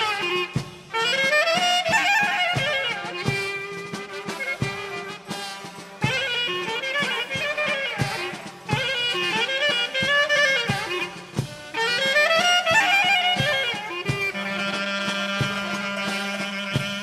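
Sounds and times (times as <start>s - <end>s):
folk clarinet melody: 0.0s - 17.0s.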